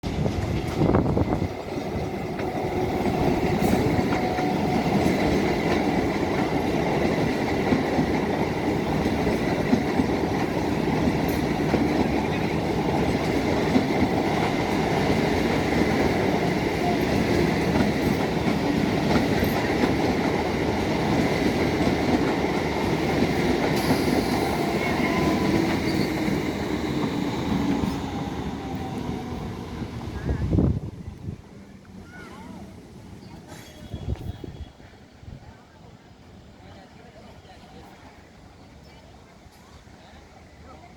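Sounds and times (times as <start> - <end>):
train wheels rumbling on track: 0.0 - 36.6.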